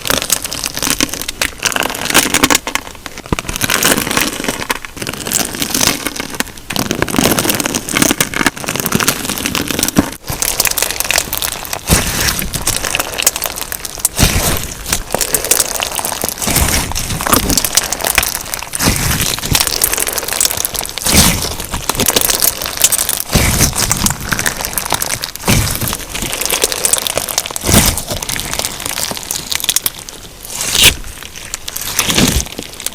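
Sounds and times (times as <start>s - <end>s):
crunchy slime being squeezed: 0.0s - 32.9s.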